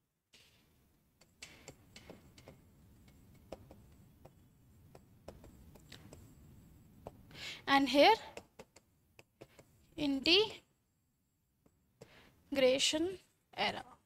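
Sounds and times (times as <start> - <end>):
low background hiss: 0.4 - 14.0.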